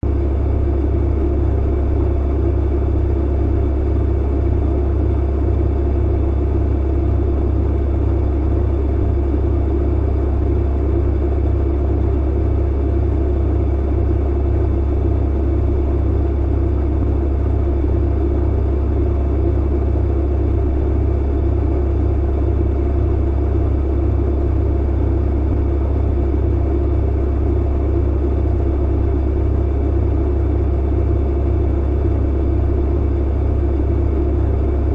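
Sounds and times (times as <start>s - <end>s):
clothes dryer humming and tumbling: 0.0s - 34.9s.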